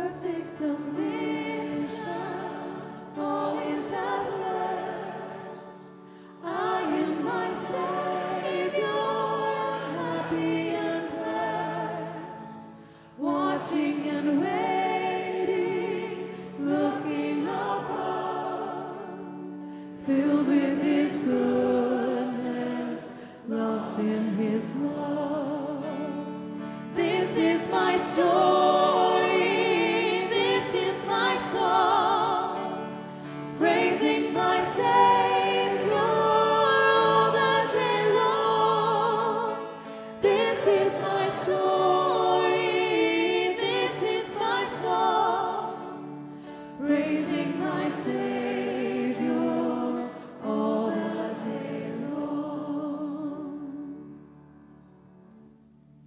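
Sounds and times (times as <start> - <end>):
woman singing lead: 0.0 - 19.2, 19.8 - 54.2
congregation singing a hymn: 0.0 - 54.4
acoustic guitar: 0.0 - 56.0
piano: 0.0 - 56.0.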